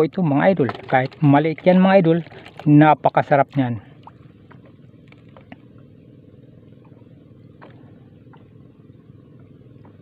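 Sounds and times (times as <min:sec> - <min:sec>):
motor humming: 0:00.0 - 0:10.0.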